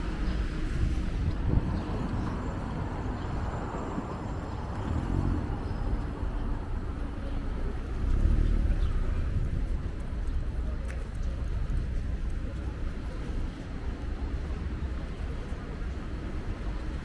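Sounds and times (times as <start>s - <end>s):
cars driving on street: 0.0s - 17.0s.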